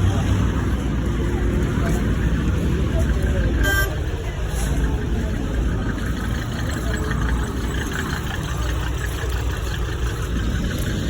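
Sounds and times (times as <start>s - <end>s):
roadside traffic noise: 0.0s - 11.0s
vehicle engine idling: 0.0s - 11.0s.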